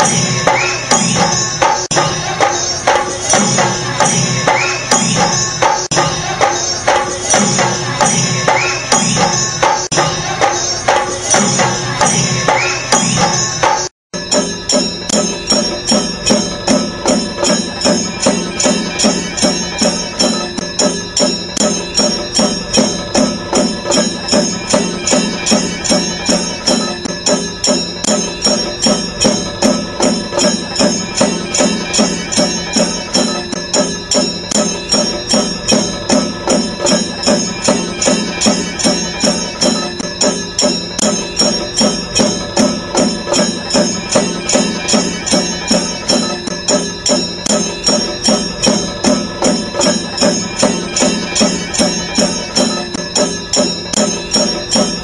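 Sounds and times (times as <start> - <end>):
background music with steady beat: 0.0 - 55.0.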